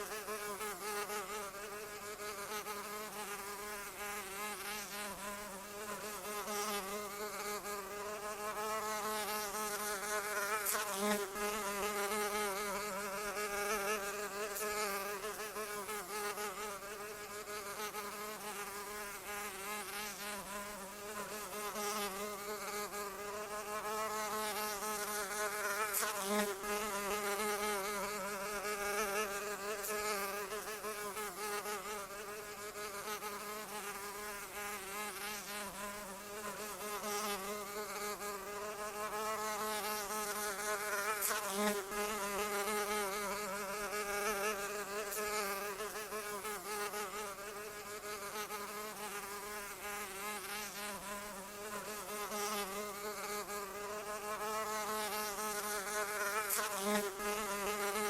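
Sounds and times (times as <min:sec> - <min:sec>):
insect wings buzzing: 0:00.0 - 0:58.0.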